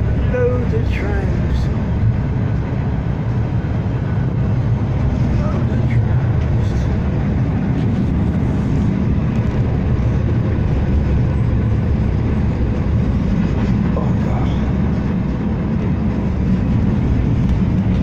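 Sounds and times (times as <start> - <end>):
tram wheels running on rails: 0.0 - 18.0.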